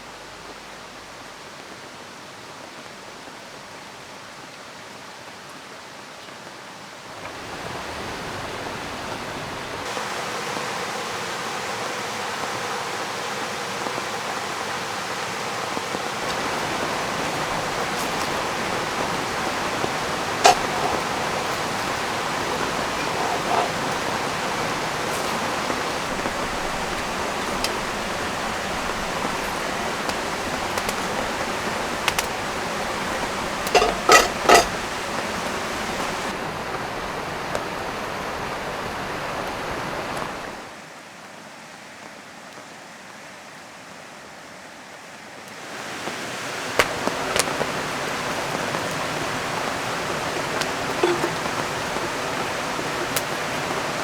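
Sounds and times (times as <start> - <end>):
river flowing: 6.7 - 54.0.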